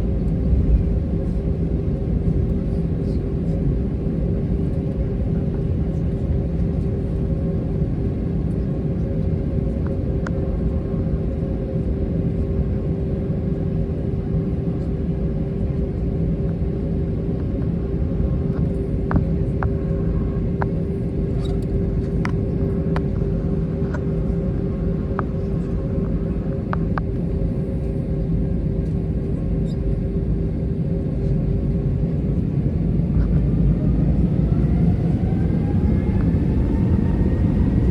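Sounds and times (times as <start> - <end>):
aircraft engines rumbling in cabin: 0.0 - 37.9.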